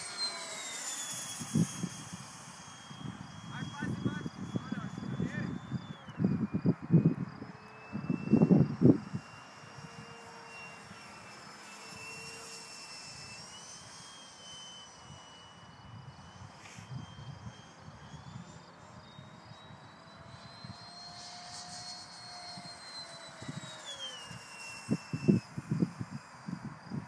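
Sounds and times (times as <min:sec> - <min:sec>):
model jet motor whine: 0:00.0 - 0:27.0.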